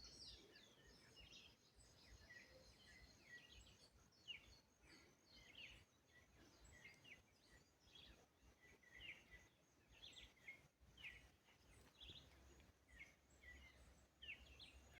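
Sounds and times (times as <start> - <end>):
faint bird chirping: 0.0 - 14.9.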